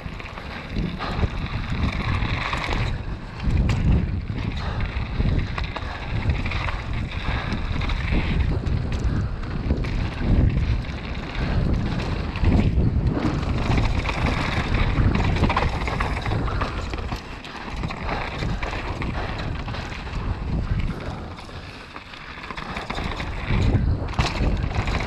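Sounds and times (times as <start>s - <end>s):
bike clicks and rattles: 0.0s - 25.0s
tyres crunching over gravel: 0.0s - 25.0s
wind buffeting microphone: 0.0s - 25.0s.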